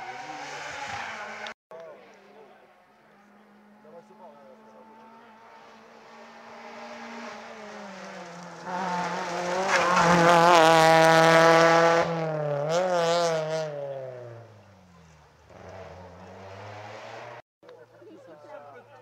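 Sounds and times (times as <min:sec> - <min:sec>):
rally car engine at full throttle: 0:00.0 - 0:17.4.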